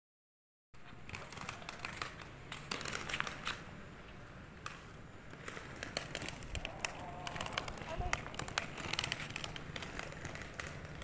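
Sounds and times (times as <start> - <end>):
skate wheels clicking on bricks: 0.8 - 11.0.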